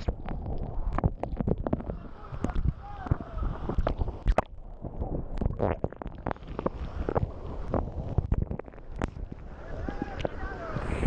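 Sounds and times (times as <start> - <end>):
wind buffeting microphone: 0.0 - 5.6, 6.2 - 11.0.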